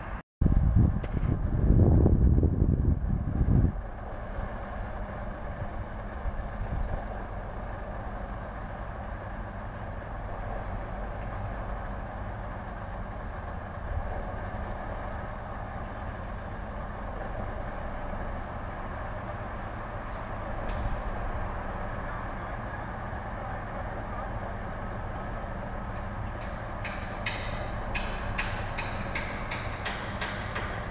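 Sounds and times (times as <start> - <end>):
distant locomotive rumble: 0.0 - 30.9.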